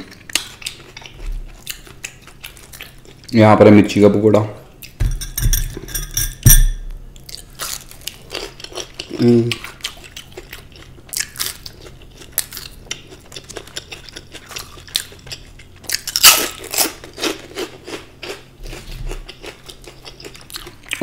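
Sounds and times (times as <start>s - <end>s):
crunching and chewing fried food: 0.0s - 3.5s, 7.2s - 21.0s.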